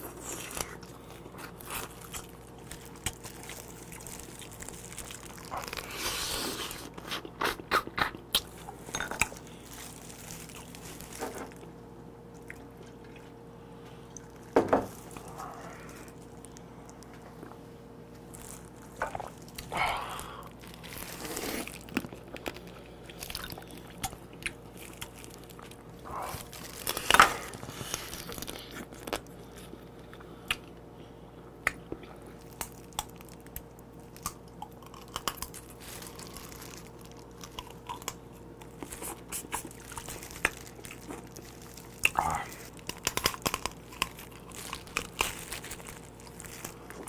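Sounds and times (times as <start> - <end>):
person chewing crab: 0.0 - 17.6, 18.2 - 30.9, 31.5 - 47.0.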